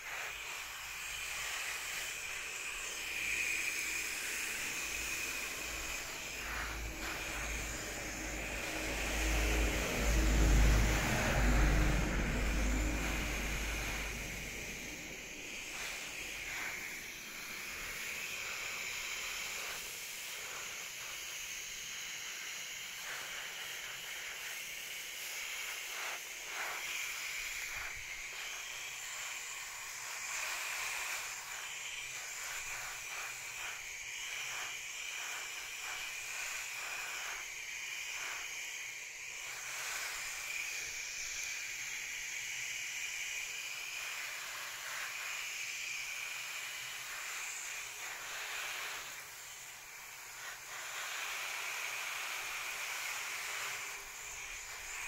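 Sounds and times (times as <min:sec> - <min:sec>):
hose nozzle spraying water: 0:00.0 - 0:55.0.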